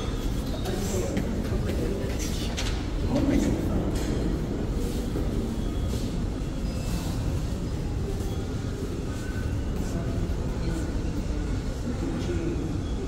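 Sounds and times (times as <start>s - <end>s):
faint voices: 0.0s - 13.0s.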